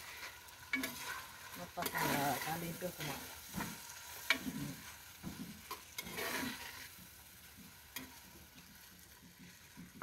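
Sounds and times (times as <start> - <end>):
food sizzling: 0.0 - 10.0
metal spatula scraping a pot: 0.0 - 10.0.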